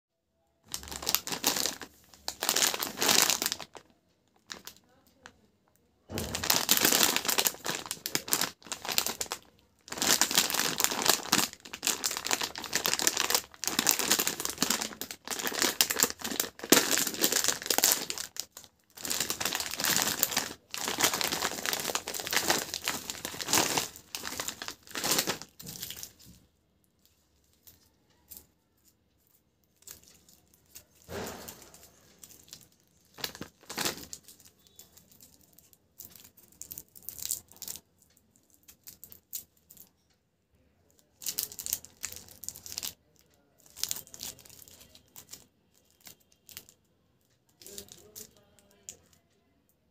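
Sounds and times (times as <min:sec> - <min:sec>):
plastic bag crinkling: 0:00.6 - 0:05.3, 0:06.1 - 0:26.4, 0:29.7 - 0:37.8, 0:41.1 - 0:46.8, 0:47.6 - 0:49.1
sweet wrappers crinkling: 0:00.6 - 0:40.1, 0:40.9 - 0:49.3.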